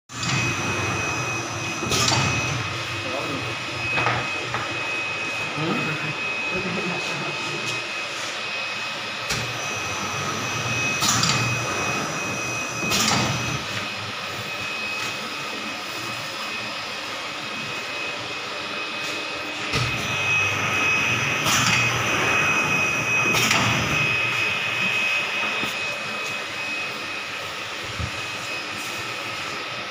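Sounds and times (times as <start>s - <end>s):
machine hum with high whine: 0.1s - 29.9s.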